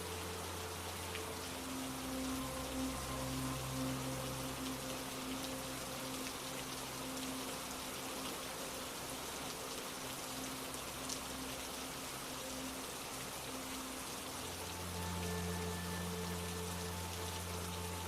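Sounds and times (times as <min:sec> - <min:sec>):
raindrops ticking on a surface: 0:00.0 - 0:18.0
steady rain falling: 0:00.0 - 0:18.0.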